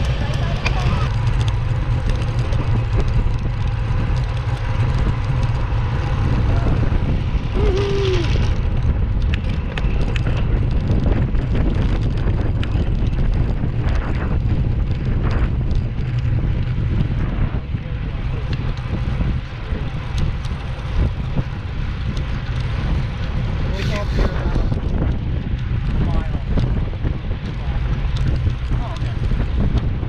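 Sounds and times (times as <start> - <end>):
road traffic: 0.0 - 30.0
wind buffeting microphone: 0.0 - 30.0.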